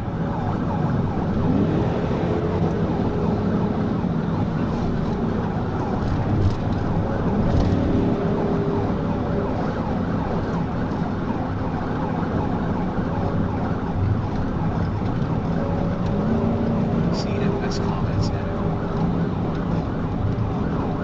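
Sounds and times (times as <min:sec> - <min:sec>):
car engine and road noise: 0:00.0 - 0:21.0
police siren: 0:00.0 - 0:21.0.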